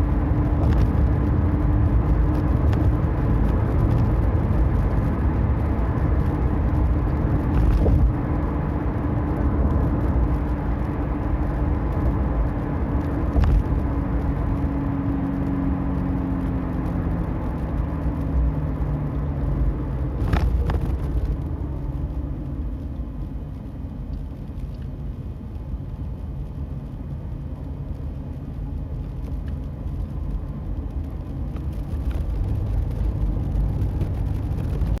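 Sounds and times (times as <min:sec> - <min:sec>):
road rumble: 0:00.0 - 0:35.0.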